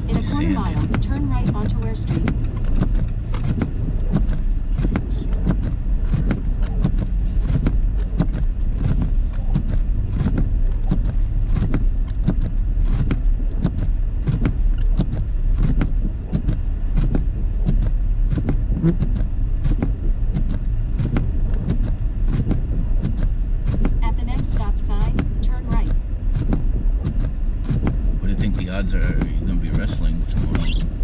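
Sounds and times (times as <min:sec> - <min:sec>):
knocks and thuds: 0:00.0 - 0:31.0
tyre and engine rumble: 0:00.0 - 0:31.0.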